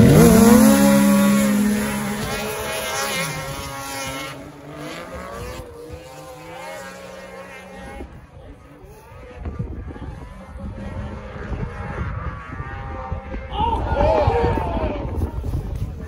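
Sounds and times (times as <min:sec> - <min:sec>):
snowmobile engines revving: 0:00.0 - 0:16.0.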